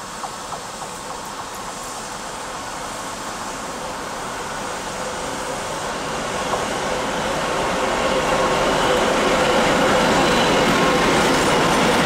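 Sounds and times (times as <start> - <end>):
diesel locomotive engine hum: 0.0 - 12.0.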